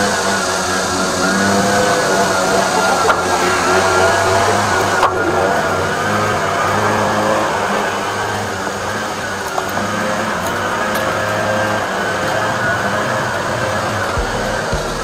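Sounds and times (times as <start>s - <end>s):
drain jetter engine running: 0.0s - 15.0s.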